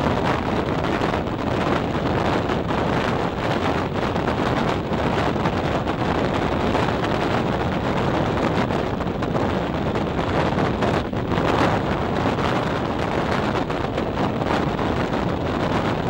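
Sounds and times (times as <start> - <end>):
wind rushing on microphone: 0.0 - 16.0.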